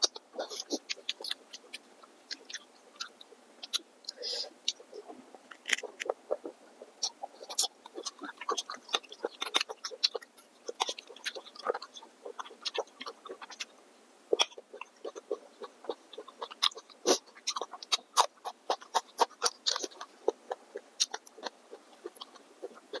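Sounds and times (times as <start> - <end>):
wet chewing smacks and clicks: 0.0 - 13.7, 14.3 - 23.0.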